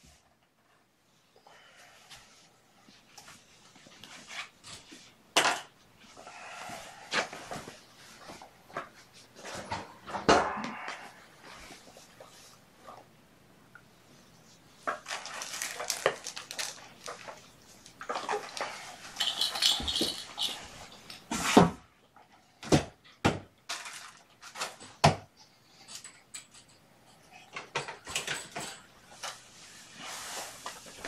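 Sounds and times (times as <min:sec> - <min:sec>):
rustling and clattering objects: 0:00.0 - 0:13.1, 0:14.1 - 0:31.0.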